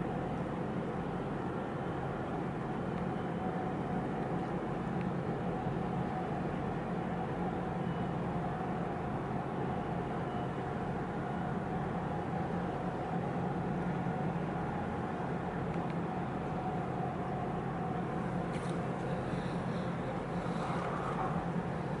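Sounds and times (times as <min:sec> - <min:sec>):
mid-pitched machinery hum: 0:00.0 - 0:22.0
ship engine drone: 0:00.0 - 0:22.0.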